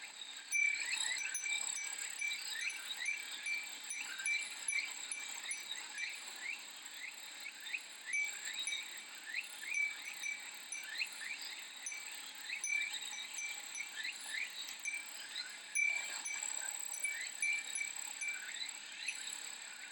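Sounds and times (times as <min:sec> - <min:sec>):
glass wind chime tinkling: 0:00.4 - 0:19.9.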